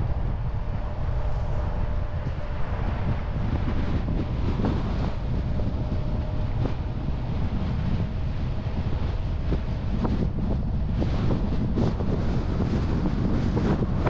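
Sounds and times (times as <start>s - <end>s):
car road noise rumble: 0.0s - 14.0s
wind buffeting microphone: 0.0s - 14.0s.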